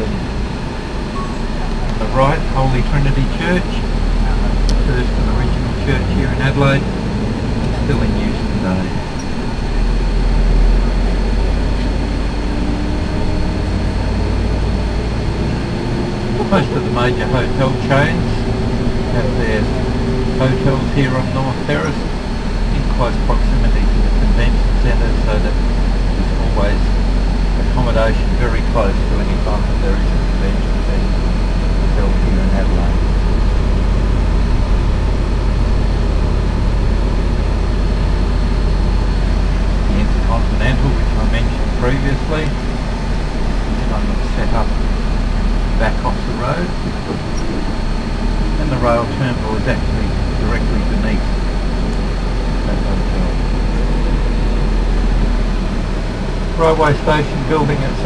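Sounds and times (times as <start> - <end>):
coach engine rumble: 0.0 - 58.0
faint steady hum: 0.0 - 58.0
high steady whine: 0.0 - 58.0.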